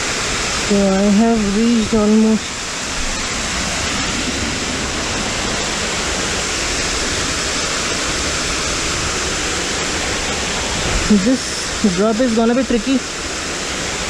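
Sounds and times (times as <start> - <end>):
waterfall crashing: 0.0 - 14.0.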